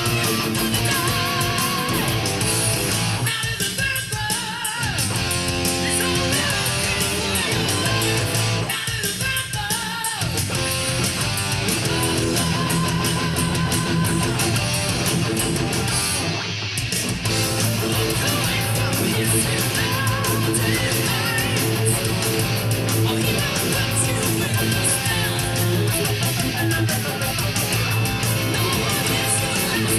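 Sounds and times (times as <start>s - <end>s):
distorted electric guitar: 0.0s - 29.9s.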